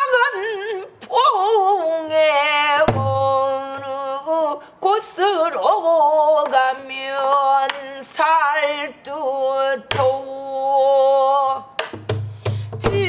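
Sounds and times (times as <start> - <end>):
woman singing with vibrato: 0.0 - 13.0.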